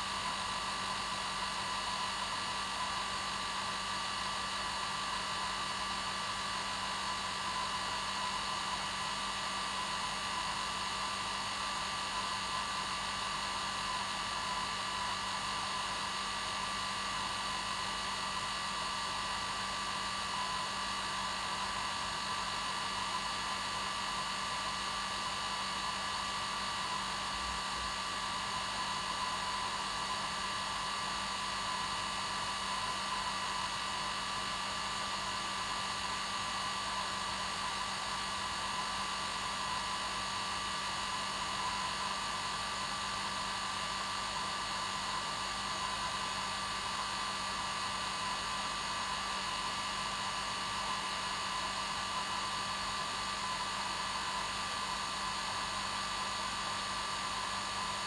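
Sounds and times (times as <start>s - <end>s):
hair dryer whirring: 11.2s - 58.0s.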